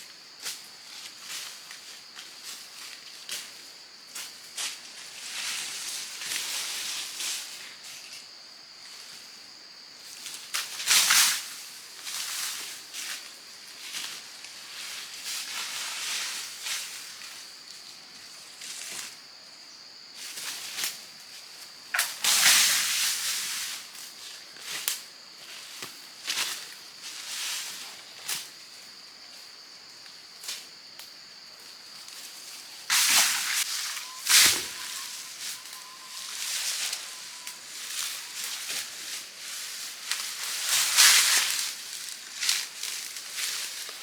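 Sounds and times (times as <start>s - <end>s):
steady high hiss: 0.0s - 29.6s, 31.9s - 44.0s
leaves and brush rustling: 0.2s - 44.0s.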